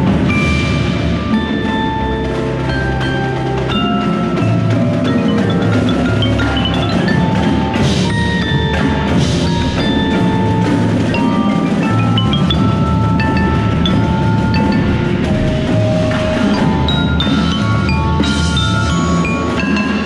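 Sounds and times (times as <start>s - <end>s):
xylophone and glockenspiel notes: 0.0s - 20.0s
metallic hits: 1.9s - 20.0s.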